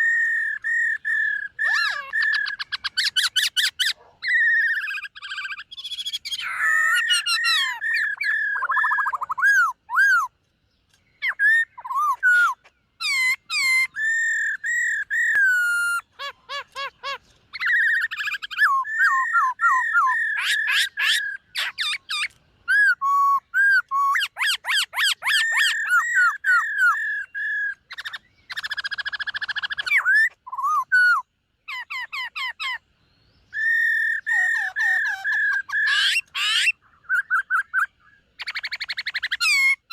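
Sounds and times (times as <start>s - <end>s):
bird singing whistled phrases: 0.0s - 10.3s, 11.2s - 39.9s.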